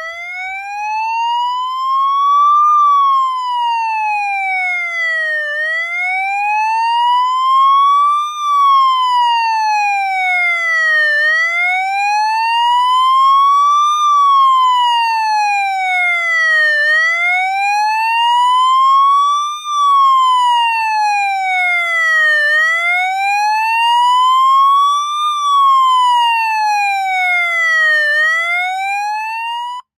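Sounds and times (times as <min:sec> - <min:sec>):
police siren slow wail: 0:00.0 - 0:30.0.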